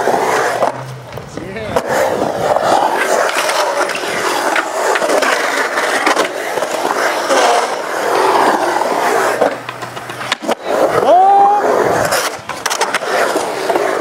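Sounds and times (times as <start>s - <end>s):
skateboard clacks: 0.0s - 14.0s
skateboard wheels rolling on concrete: 0.0s - 14.0s.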